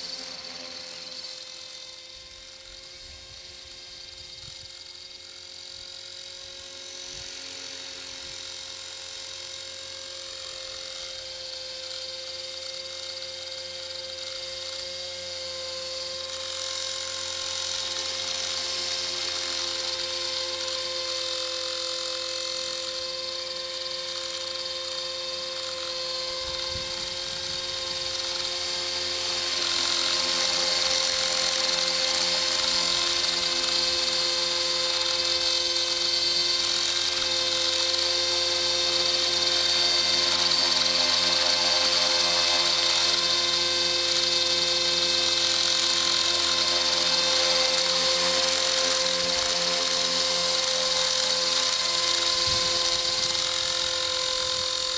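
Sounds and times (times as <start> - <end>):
rc helicopter motor whine: 0.0 - 54.9.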